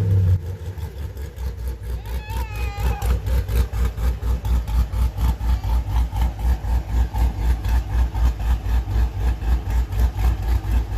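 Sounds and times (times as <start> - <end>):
engine idling with choppy lope: 0.0 - 10.9.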